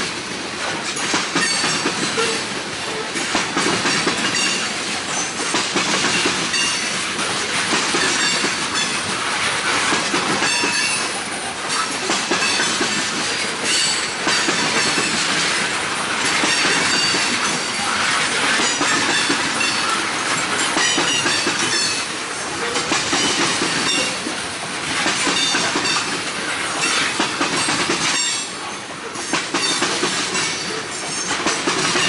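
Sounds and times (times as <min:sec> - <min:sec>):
wheels clacking over rail joints: 0:00.0 - 0:32.0.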